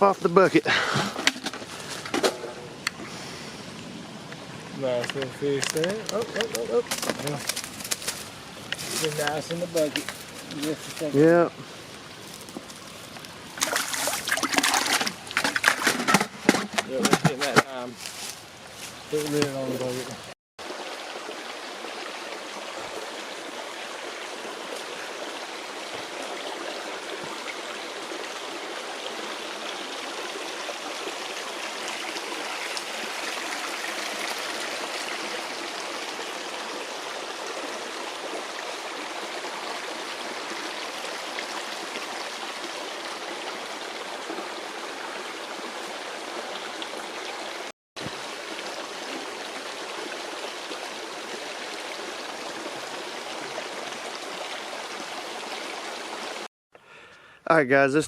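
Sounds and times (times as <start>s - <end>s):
creek water running: 0.0s - 57.1s.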